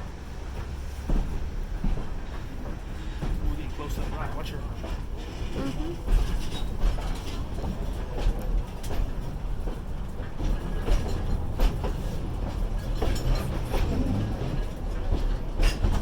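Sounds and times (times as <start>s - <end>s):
train rumbling on rails: 0.0s - 16.0s
wheels clacking and knocking: 0.6s - 16.0s.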